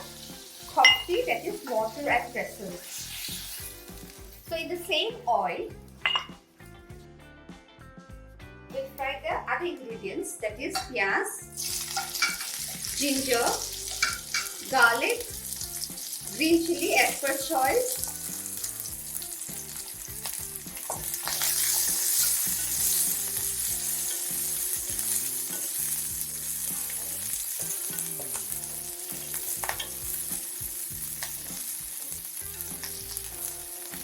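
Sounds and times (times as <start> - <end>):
vegetables sizzling in hot oil: 0.0 - 4.9, 11.5 - 34.0.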